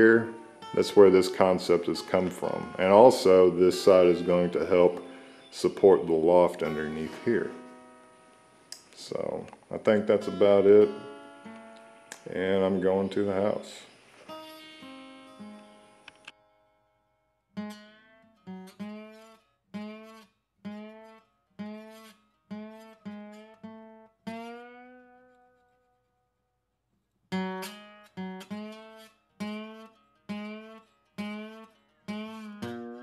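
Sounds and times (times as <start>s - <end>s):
plucked acoustic guitar notes: 0.0s - 16.3s, 17.6s - 25.9s, 27.3s - 33.0s.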